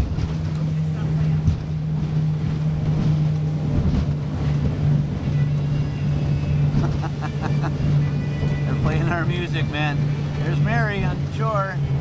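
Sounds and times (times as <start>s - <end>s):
motorboat engine droning: 0.0s - 12.0s
water against hull: 0.0s - 12.0s.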